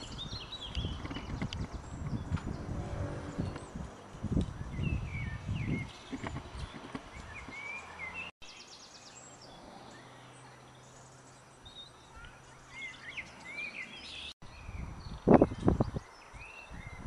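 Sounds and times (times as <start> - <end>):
outdoor background noise: 0.0 - 17.0
small birds chirping and calling: 0.0 - 17.0.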